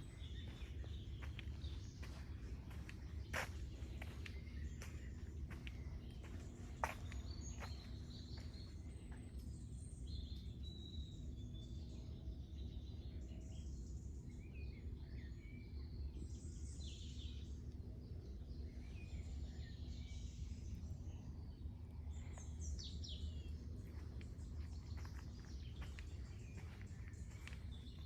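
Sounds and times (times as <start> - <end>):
low outdoor rumble: 0.0 - 14.3, 15.8 - 28.0
songbirds chirping: 0.0 - 28.0.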